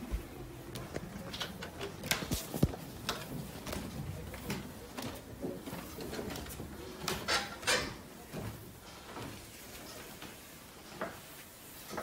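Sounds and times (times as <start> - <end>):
footsteps on wooden stairs: 0.0 - 10.4.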